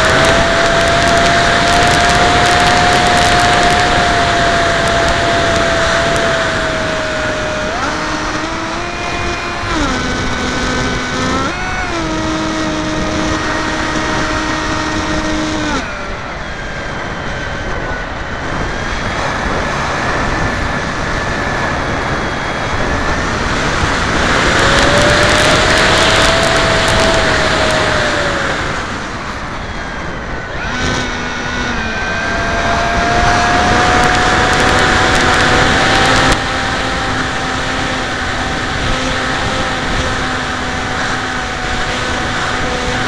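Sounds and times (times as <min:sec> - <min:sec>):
electric motor and propeller whine: 0:00.0 - 0:43.0
wind rush on microphone: 0:00.0 - 0:43.0.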